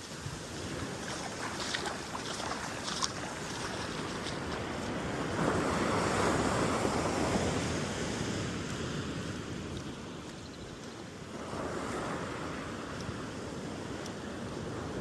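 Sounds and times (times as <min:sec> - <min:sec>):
waves washing up beach: 0:00.0 - 0:15.0.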